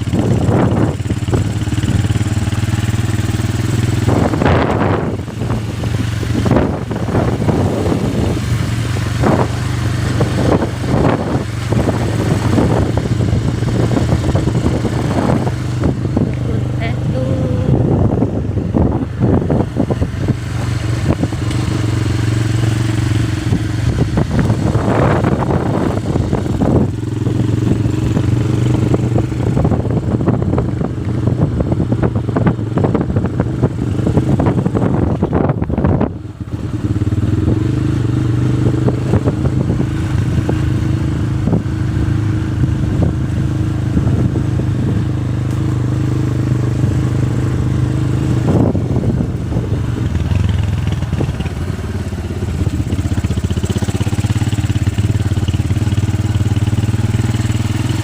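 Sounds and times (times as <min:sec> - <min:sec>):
motorcycle engine running: 0:00.0 - 0:58.0
road clatter and rattle: 0:00.0 - 0:58.0.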